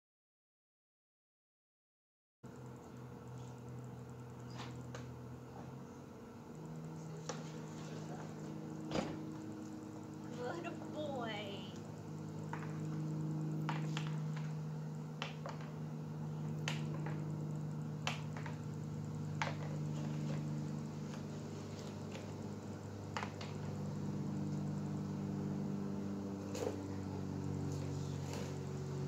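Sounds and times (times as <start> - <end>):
low mechanical hum: 2.5 - 29.0.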